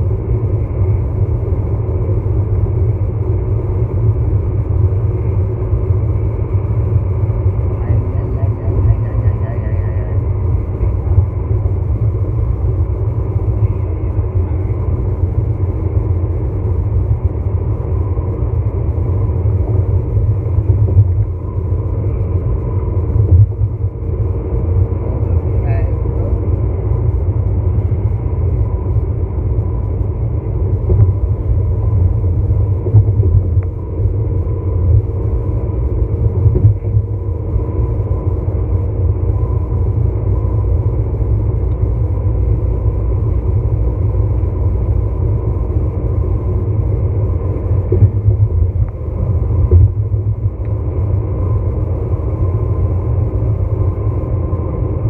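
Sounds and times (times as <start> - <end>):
road and engine rumble: 0.0 - 55.0.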